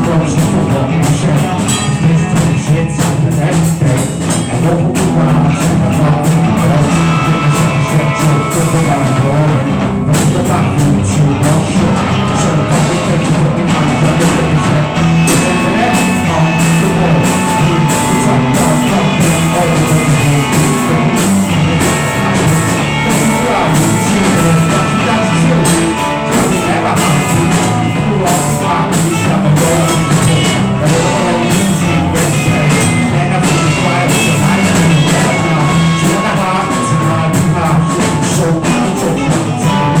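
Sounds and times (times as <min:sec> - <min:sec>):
rock band jamming: 0:00.0 - 0:40.0.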